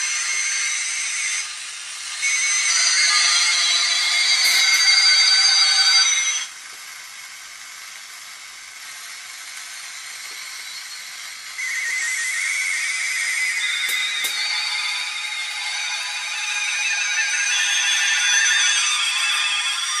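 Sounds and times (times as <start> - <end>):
high whistling tones: 0.0 - 6.5, 9.6 - 20.0.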